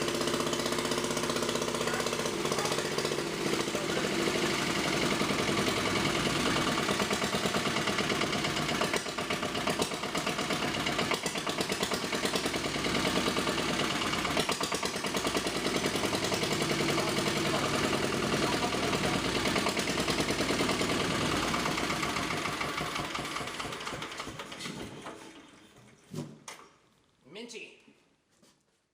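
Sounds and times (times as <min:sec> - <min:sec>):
diesel generator chugging: 0:00.0 - 0:25.5.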